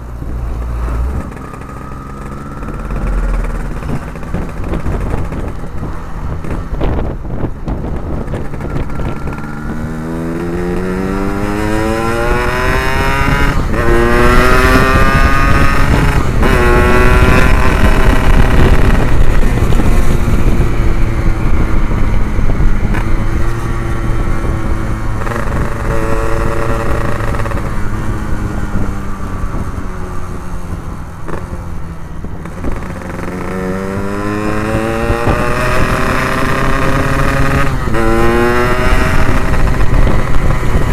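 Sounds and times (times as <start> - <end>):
two-stroke motorcycle engine revving: 0.0 - 29.9, 32.3 - 40.9.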